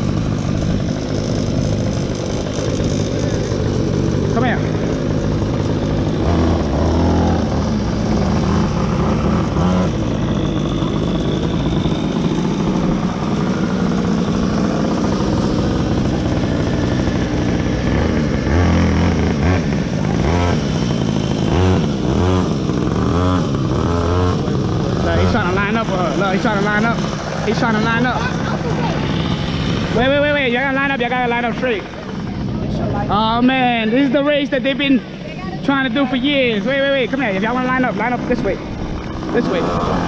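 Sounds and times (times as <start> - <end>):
go-kart engine running: 0.0 - 40.0.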